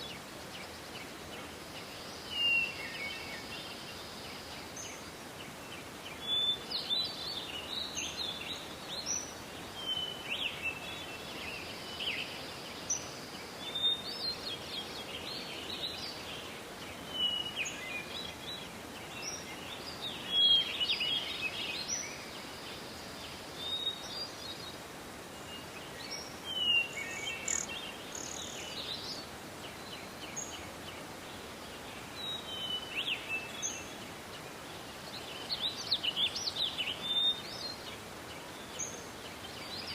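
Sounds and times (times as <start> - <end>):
forest background noise: 0.0 - 39.9
songbirds singing and chirping: 0.0 - 39.9.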